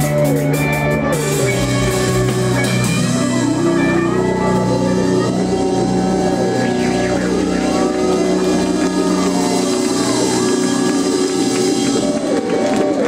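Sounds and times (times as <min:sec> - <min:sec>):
electric guitars with pitch slides: 0:00.0 - 0:13.0
live rock band music: 0:00.0 - 0:13.0.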